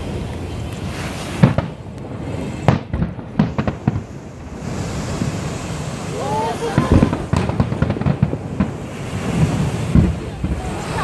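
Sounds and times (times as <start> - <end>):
distant firework booms: 0.0 - 11.0
sharp firework bangs: 0.0 - 11.0.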